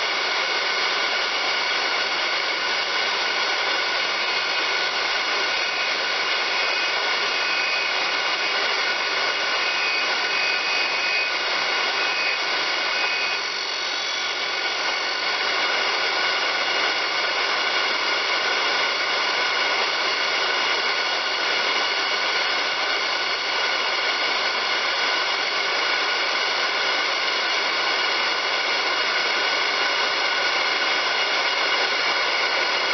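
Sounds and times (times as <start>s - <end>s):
grinder whining: 0.0s - 32.9s.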